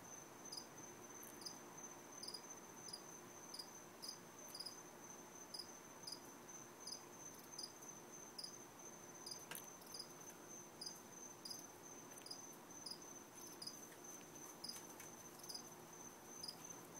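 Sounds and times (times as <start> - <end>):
crickets chirping: 0.0 - 16.9.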